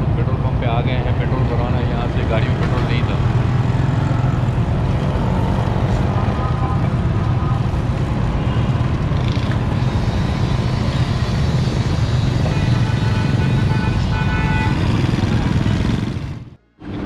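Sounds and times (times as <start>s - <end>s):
motorcycle engines humming: 0.0s - 17.0s
street traffic: 0.0s - 17.0s.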